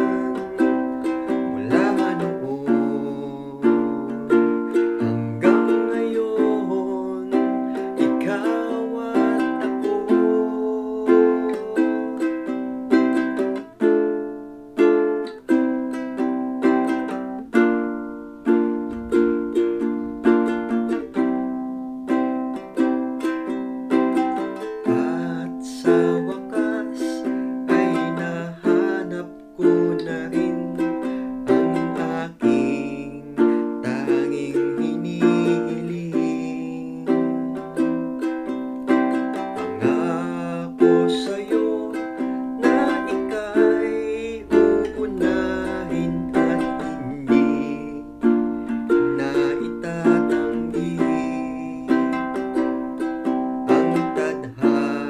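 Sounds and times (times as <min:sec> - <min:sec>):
ukulele strumming: 0:00.0 - 0:55.0.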